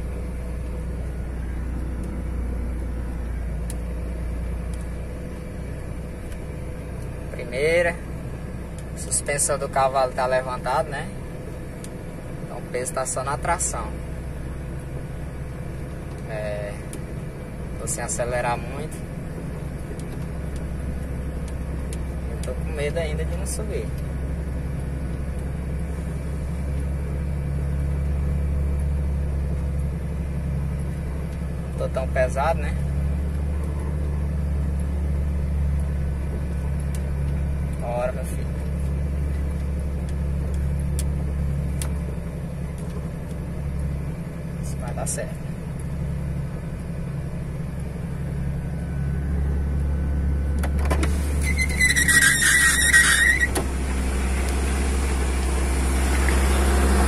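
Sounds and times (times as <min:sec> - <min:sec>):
diesel engine running low: 0:00.0 - 0:57.0.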